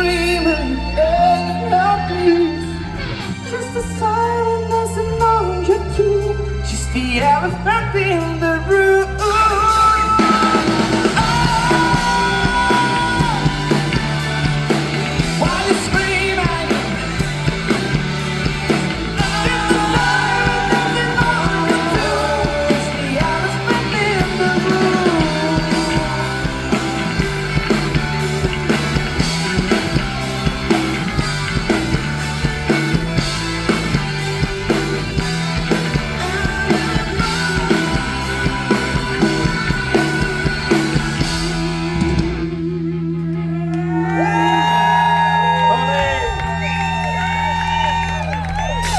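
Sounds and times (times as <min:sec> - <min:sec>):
person singing: 0:00.0 - 0:28.7, 0:35.9 - 0:46.7
rock band playing live: 0:00.0 - 0:48.9.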